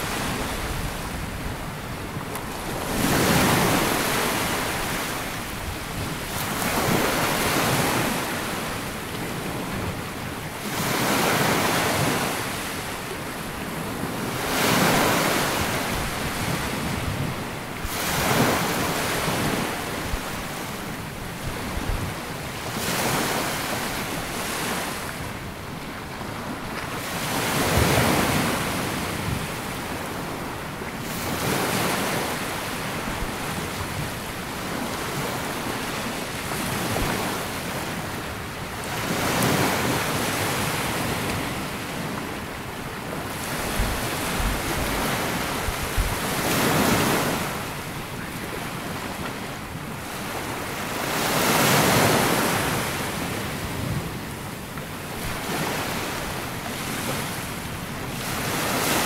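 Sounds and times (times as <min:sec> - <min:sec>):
sea waves washing onto beach: 0:00.0 - 0:59.0.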